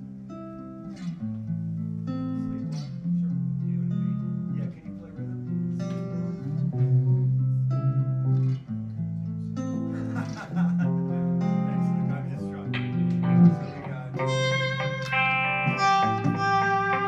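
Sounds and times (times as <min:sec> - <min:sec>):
clean electric guitar playing: 0:00.0 - 0:17.0.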